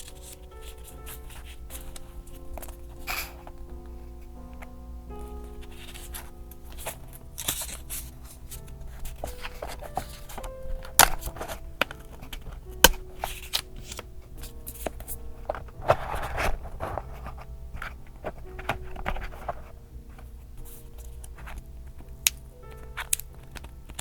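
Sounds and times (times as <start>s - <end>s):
paper rustling and crinkling: 0.0s - 24.0s
soft background music: 0.0s - 24.0s.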